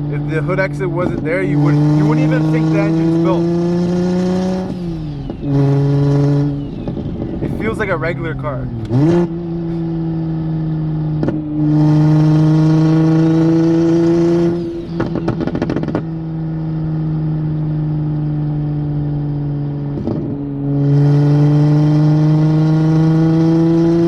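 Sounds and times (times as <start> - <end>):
car engine pulling from inside: 0.0 - 24.0.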